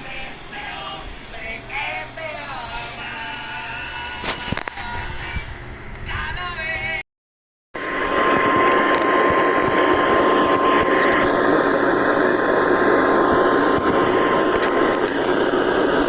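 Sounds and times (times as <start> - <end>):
radio static hissing: 0.0 - 5.4, 7.8 - 16.0.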